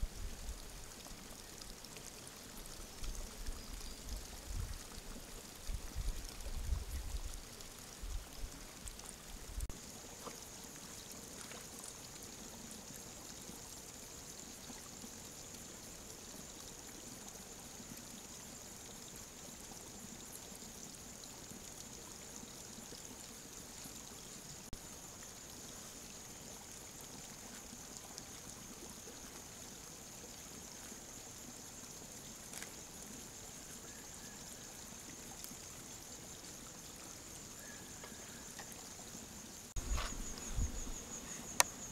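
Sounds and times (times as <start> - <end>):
steady outdoor hiss: 0.0 - 41.9.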